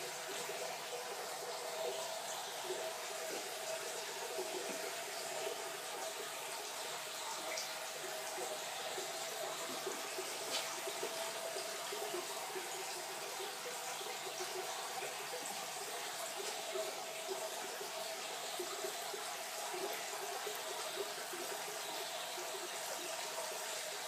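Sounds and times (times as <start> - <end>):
filter water running into tank: 0.0 - 24.0.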